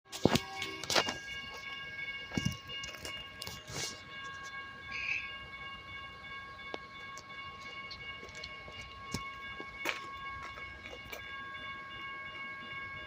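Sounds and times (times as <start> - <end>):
steady chord of high tones: 0.1 - 13.0
train moving slowly: 0.1 - 13.0.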